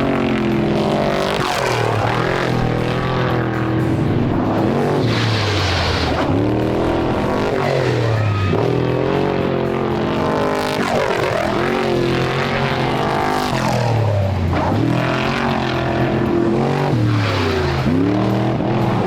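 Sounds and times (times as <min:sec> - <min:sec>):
race vehicle engines revving: 0:00.0 - 0:19.0.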